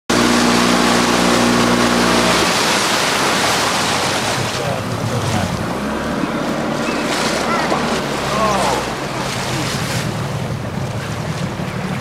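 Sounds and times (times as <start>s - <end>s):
boat engine humming: 0.1s - 12.0s
sea wash: 0.1s - 12.0s.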